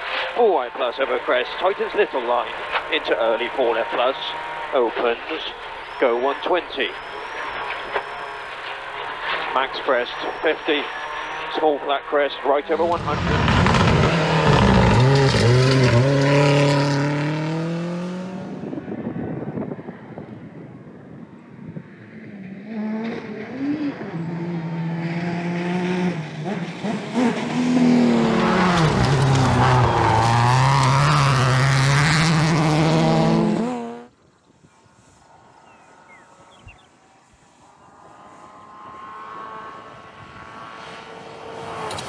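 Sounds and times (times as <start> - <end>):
rally car engine at full throttle: 0.0 - 34.1, 37.7 - 42.0.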